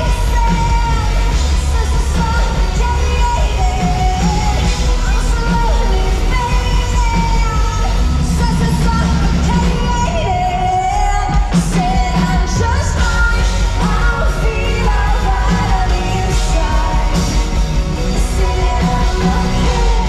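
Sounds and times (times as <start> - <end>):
live rock band playing: 0.0 - 20.0
woman singing: 0.0 - 20.0.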